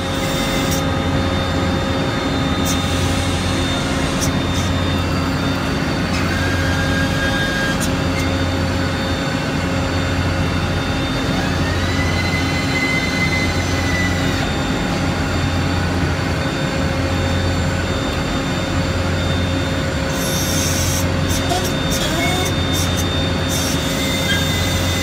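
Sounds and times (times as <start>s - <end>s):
high-pitched whine: 0.0s - 25.0s
industrial machine hum: 0.0s - 25.0s.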